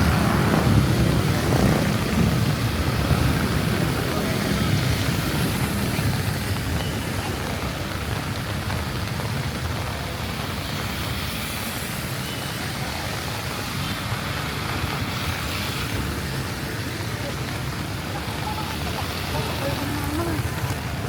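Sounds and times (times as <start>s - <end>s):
steady rain: 0.0s - 21.0s
traffic on wet roads: 0.0s - 21.0s.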